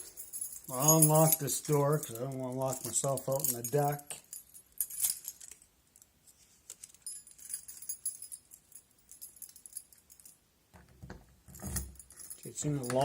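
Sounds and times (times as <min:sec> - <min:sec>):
keys jingling: 0:00.0 - 0:05.7, 0:06.8 - 0:10.4, 0:11.5 - 0:13.0.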